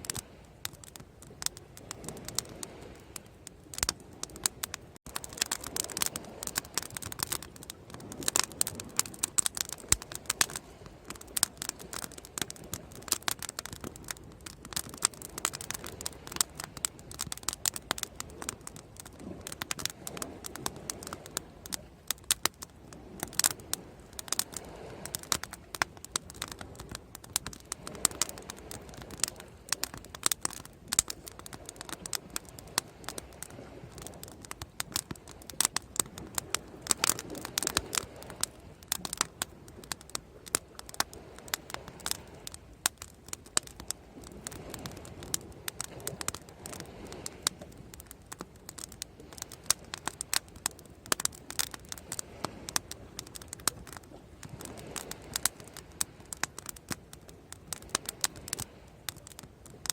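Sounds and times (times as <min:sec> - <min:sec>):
bonfire crackling and popping: 0:00.0 - 0:59.9.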